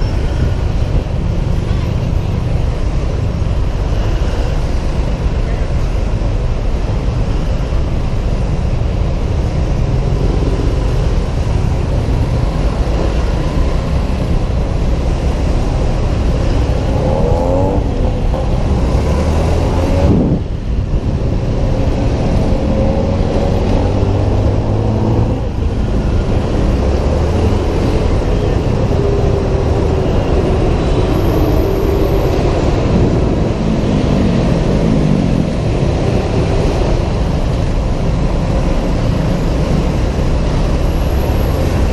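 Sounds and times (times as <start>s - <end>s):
wind and road noise: 0.0s - 41.9s.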